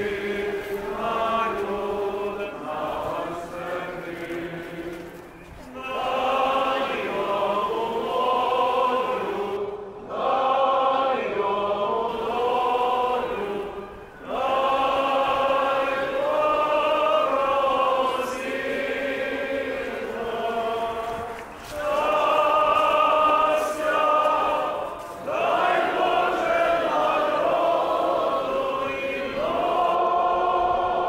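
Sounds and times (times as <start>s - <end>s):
group of voices chanting: 5.7s - 31.0s.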